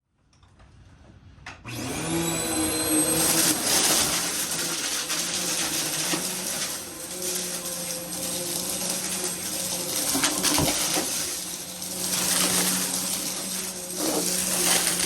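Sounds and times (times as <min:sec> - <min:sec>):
vacuum cleaner running: 0:01.6 - 0:15.0.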